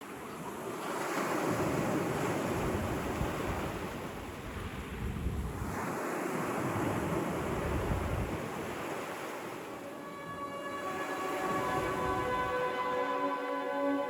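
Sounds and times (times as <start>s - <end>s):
sea waves washing onto shore: 0.0s - 14.0s
wind on microphone: 1.4s - 14.0s.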